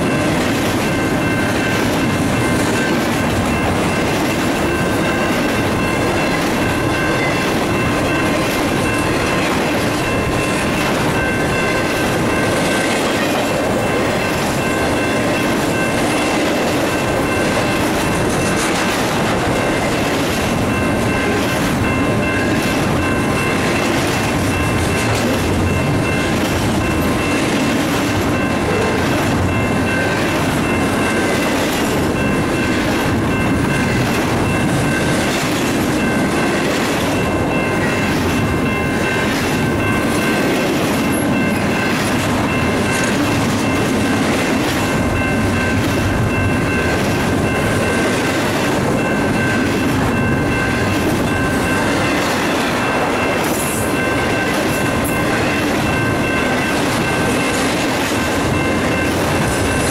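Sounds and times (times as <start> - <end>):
high ringing tones: 0.0 - 59.9
train wheels clattering on rails: 0.0 - 59.9.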